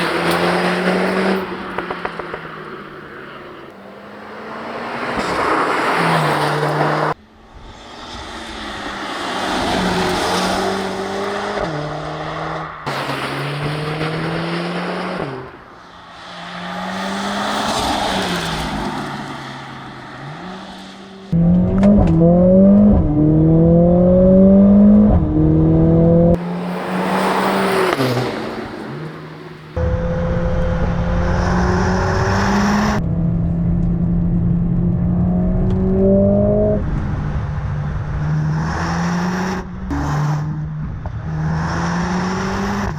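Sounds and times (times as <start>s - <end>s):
supercar engine and exhaust: 0.0s - 42.9s.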